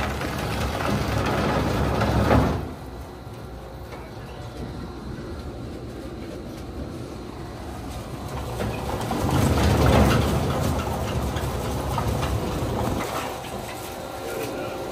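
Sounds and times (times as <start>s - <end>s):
wood grinder rumbling: 0.0s - 3.7s, 4.5s - 14.9s.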